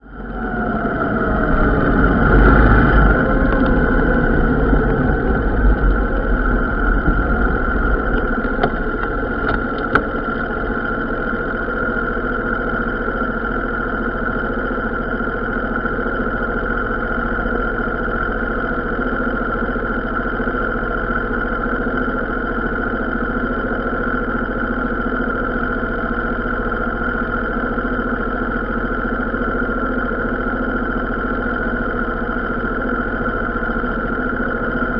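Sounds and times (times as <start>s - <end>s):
vehicle engine idling: 0.0s - 34.9s.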